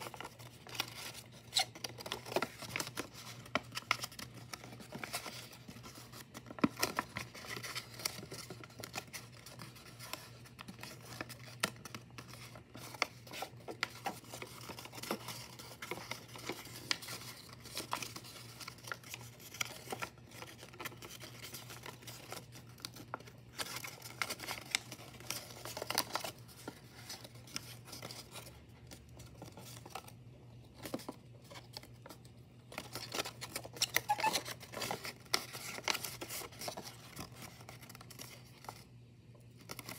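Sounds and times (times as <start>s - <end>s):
paper rustling and crinkling: 0.0s - 39.9s.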